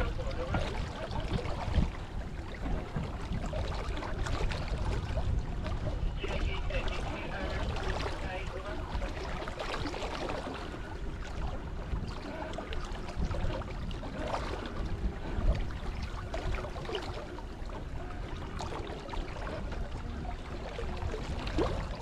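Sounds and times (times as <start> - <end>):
low rumble: 0.0 - 22.0
water sloshing along hull: 0.0 - 22.0.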